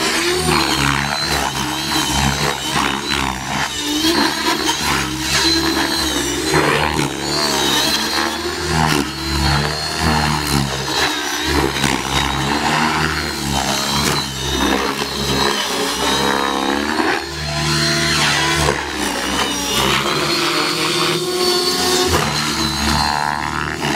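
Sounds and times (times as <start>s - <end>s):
rc helicopter rotor whine: 0.0s - 23.9s.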